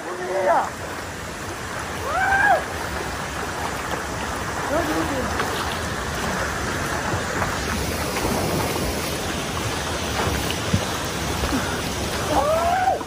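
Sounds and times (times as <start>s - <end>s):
river water splashing and rushing: 0.0s - 13.0s.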